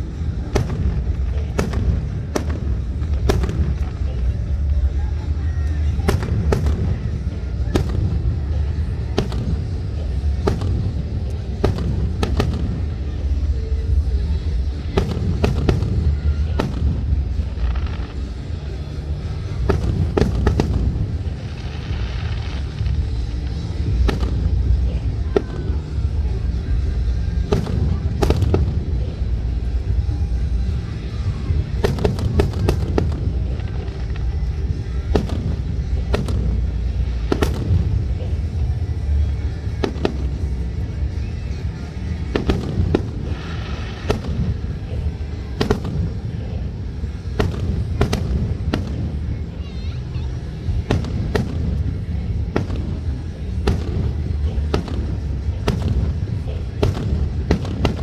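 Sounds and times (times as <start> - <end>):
distant fireworks bangs: 0.0 - 58.0
steady low rumble: 0.0 - 58.0.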